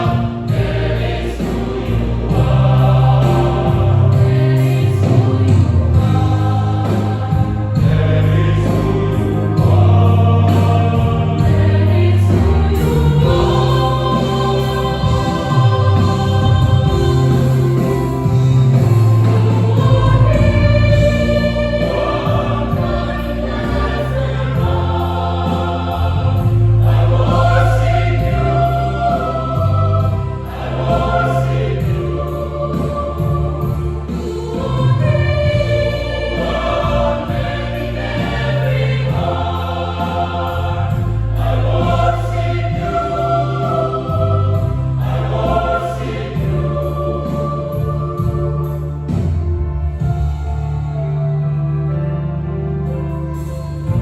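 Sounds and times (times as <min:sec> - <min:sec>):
choir singing in harmony: 0:00.0 - 0:54.0
sustained low accompanying notes: 0:00.0 - 0:54.0.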